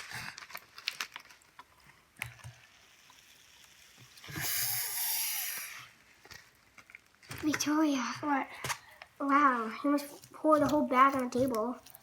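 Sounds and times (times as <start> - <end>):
foam beads clicking and pattering: 0.0 - 12.0.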